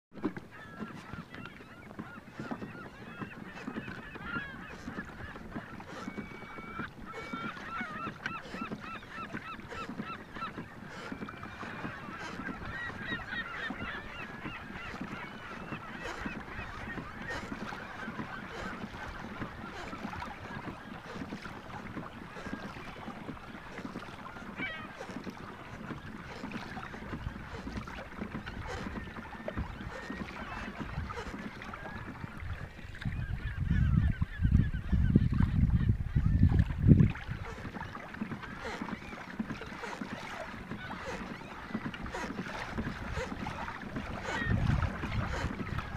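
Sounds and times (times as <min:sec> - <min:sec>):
flock of waterbirds calling: 0:00.1 - 0:45.9.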